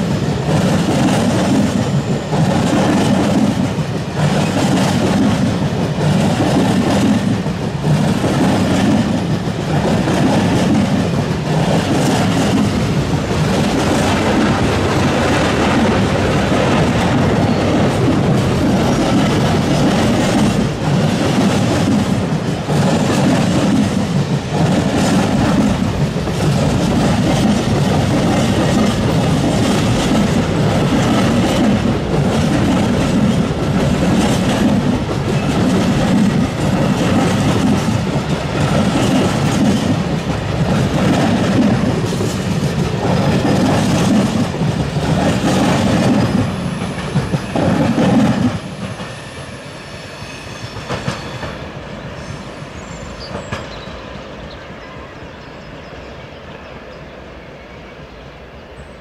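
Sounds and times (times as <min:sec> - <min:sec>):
train wheels clattering on rails: 0:00.0 - 0:54.8
faint train rumble: 0:00.0 - 0:59.0.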